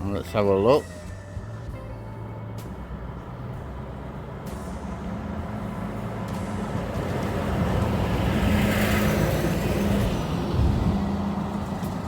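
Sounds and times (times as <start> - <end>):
heavy truck approaching: 0.0 - 12.0.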